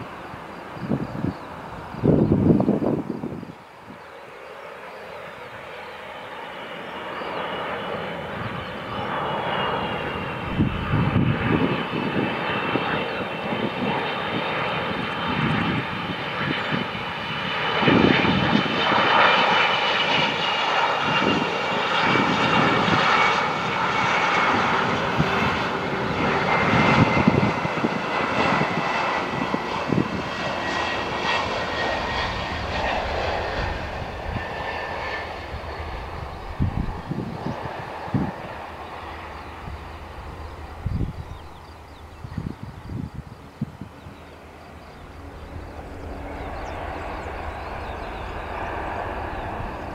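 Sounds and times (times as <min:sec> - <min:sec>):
jet engine roar: 0:00.0 - 0:49.9
jet engine whine: 0:00.0 - 0:49.9.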